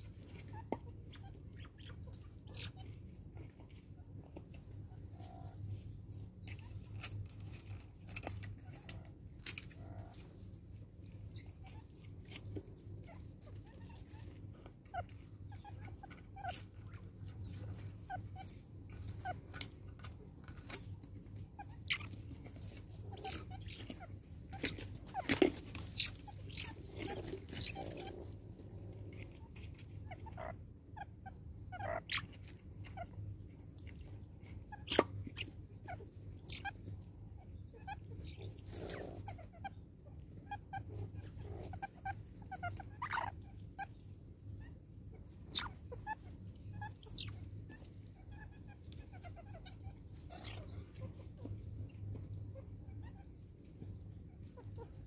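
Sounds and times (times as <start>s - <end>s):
mongooses clucking and chirping: 0.0s - 55.0s.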